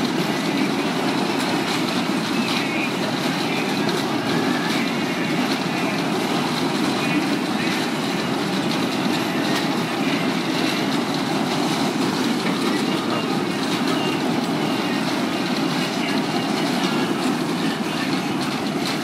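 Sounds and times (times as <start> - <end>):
carnival ride rumbling clatter: 0.0 - 19.0.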